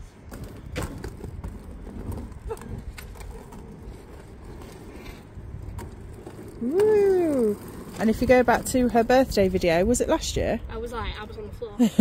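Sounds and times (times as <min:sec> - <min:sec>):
roller skate wheels on tarmac: 0:00.0 - 0:12.0.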